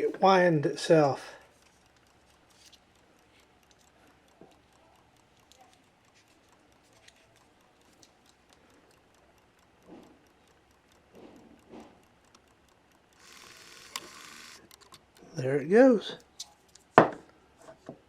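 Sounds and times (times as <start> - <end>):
clock ticking faintly: 0.0 - 16.4.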